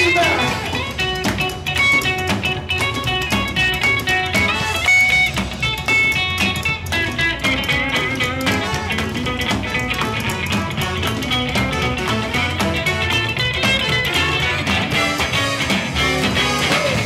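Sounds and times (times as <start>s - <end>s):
swing band playing: 0.0s - 17.0s.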